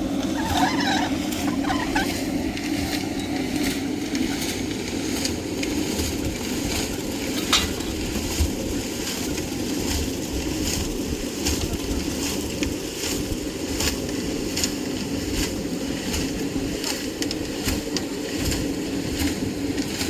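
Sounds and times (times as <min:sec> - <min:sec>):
engine running under load: 0:00.0 - 0:20.0.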